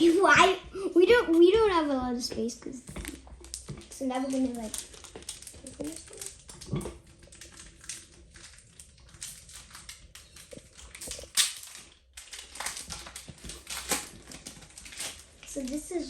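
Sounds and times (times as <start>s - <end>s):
card wrappers rustling: 2.8s - 16.0s.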